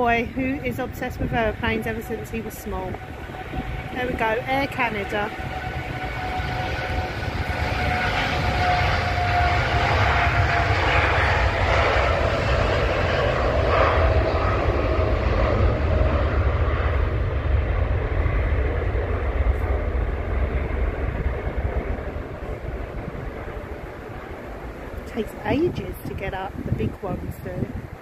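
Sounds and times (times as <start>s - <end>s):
jet engines roaring with whine: 0.0s - 28.0s.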